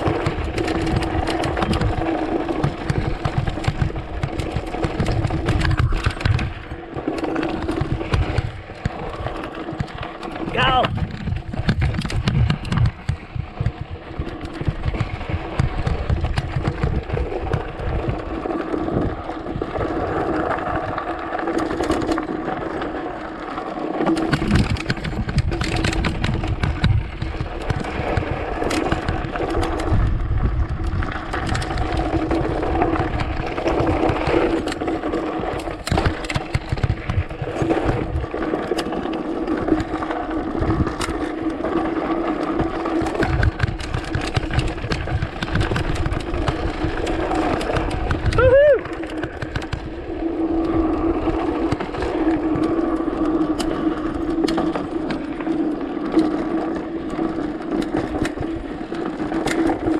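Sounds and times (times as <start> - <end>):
bike frame knocks and rattles: 0.0 - 19.2, 23.9 - 56.4
wind rumble on microphone: 0.0 - 22.9, 23.9 - 59.9
bike tyres rolling over rocks: 0.0 - 59.9.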